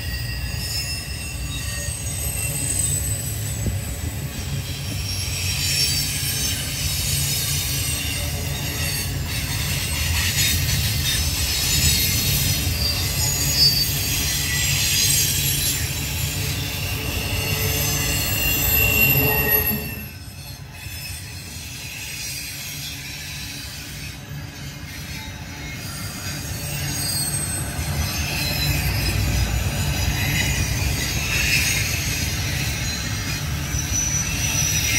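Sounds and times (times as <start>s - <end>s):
freight train rumbling past: 0.0s - 34.9s
high-pitched wheel squeal: 0.0s - 34.9s.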